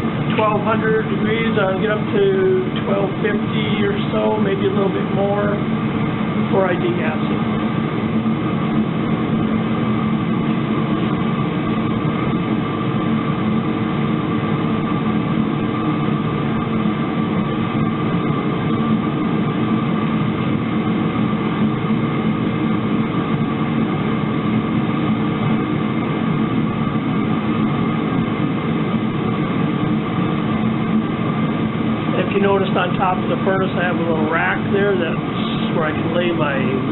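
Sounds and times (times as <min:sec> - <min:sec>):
furnace burner rushing: 0:00.0 - 0:36.9.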